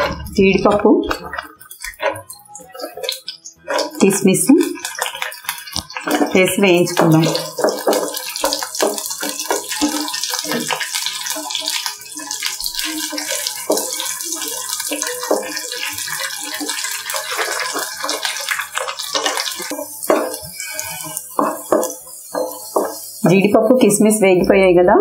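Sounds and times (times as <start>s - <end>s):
wooden spatula stirring: 0.0s - 23.4s
nuts sizzling and popping in ghee: 0.1s - 23.5s.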